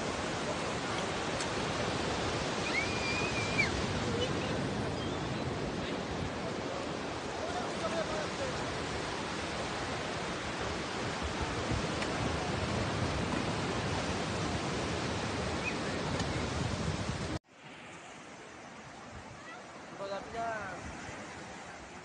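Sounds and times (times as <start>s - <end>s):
surf breaking on sand: 0.0s - 22.0s.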